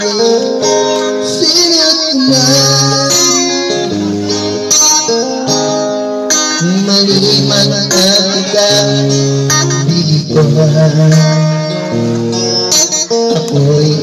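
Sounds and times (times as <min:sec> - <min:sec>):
electric guitar solo: 0:00.0 - 0:14.0.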